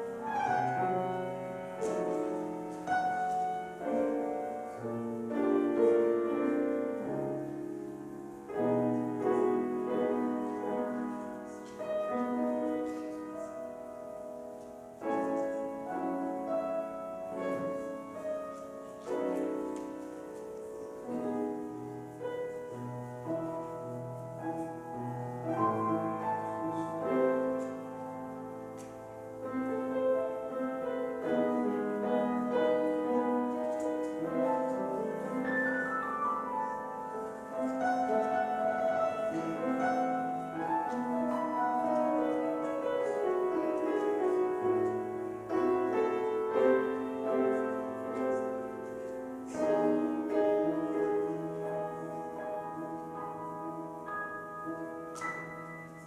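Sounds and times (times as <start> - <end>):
solo piano playing: 0.0 - 56.0.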